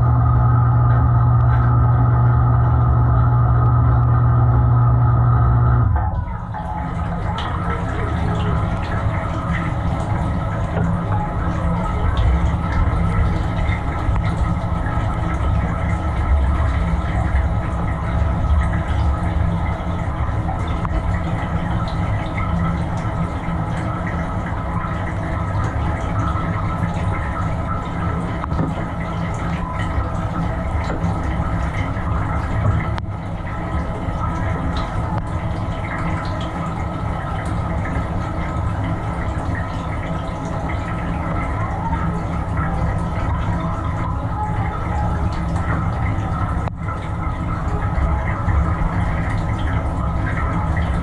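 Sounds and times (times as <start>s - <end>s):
dishwasher pump humming: 0.0s - 51.0s
water spraying and sloshing: 5.9s - 51.0s.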